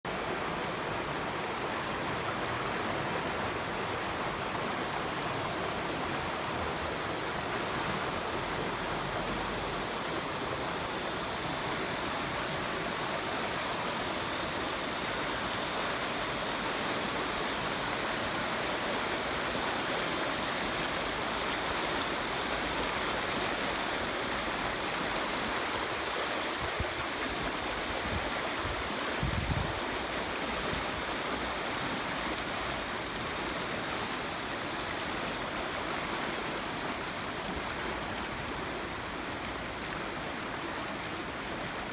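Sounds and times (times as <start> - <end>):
running water rushing: 0.1 - 41.9.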